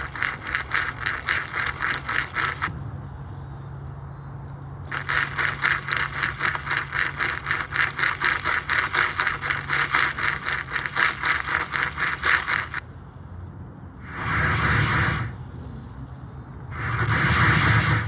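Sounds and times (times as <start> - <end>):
rapid pulsing noise: 0.0 - 4.1, 4.8 - 18.0
low steady hum: 0.0 - 18.0.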